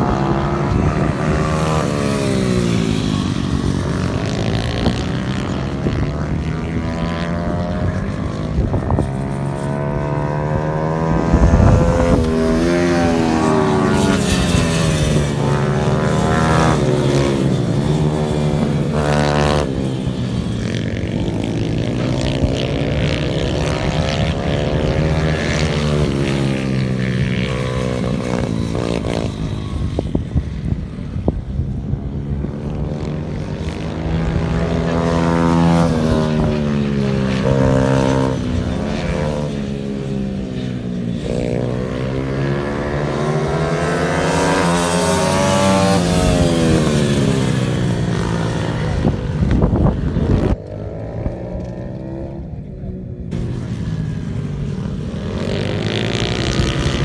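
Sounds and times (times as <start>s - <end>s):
small motorbike engines revving: 0.0s - 57.0s.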